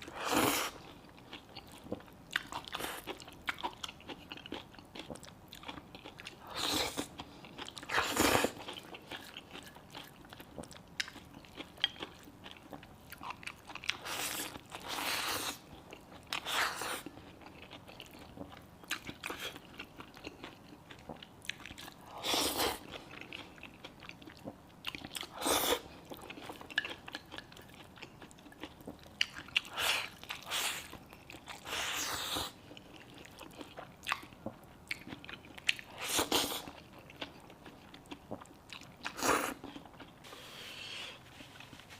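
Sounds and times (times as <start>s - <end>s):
person chewing and crunching: 0.0s - 41.8s.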